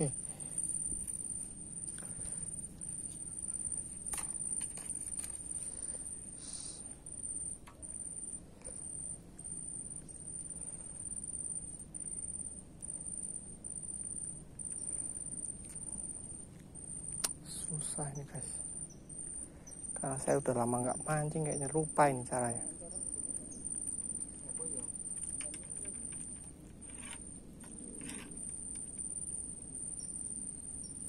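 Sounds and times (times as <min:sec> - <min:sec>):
insect trilling: 0:00.0 - 0:31.0.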